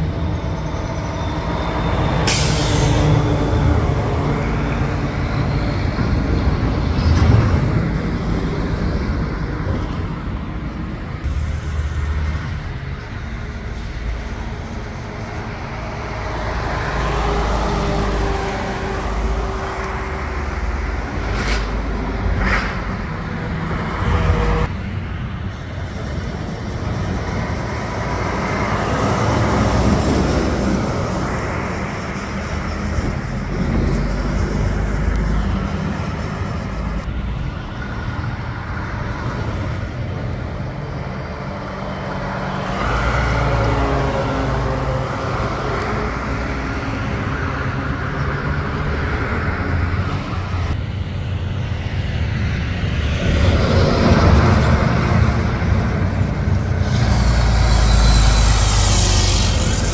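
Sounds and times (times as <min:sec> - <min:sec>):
heavy trucks passing: 0:00.0 - 0:59.9.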